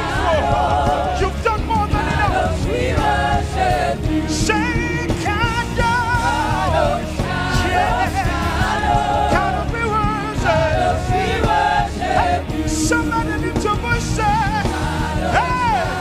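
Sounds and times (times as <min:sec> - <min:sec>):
band accompaniment: 0:00.0 - 0:16.0
voices singing with vibrato: 0:00.0 - 0:16.0.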